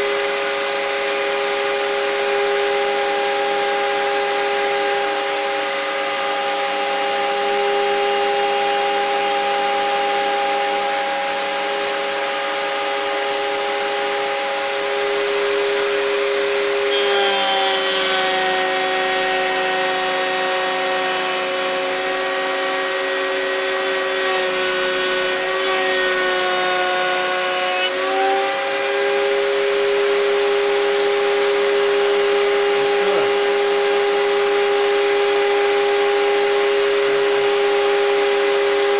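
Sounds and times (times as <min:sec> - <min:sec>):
router cutting wood hiss: 0:00.0 - 0:38.9
router whining: 0:00.0 - 0:38.9
shop vacuum running: 0:00.0 - 0:38.9.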